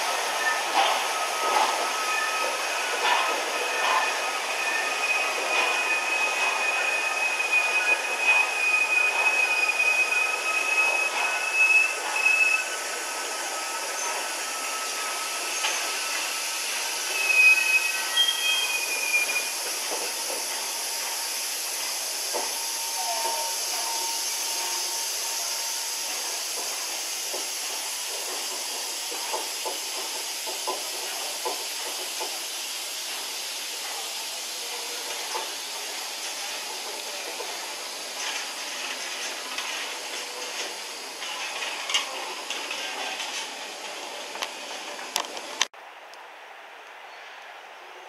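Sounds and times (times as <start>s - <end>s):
train passing: 0.0s - 48.0s.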